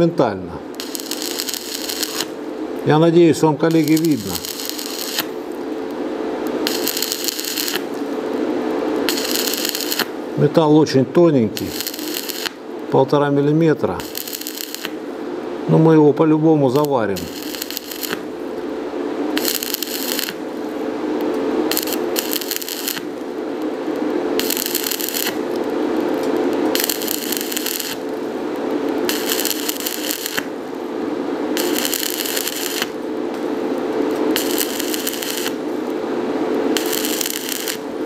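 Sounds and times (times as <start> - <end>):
steady hum: 0.0 - 38.0
welding arc crackling: 0.0 - 38.0.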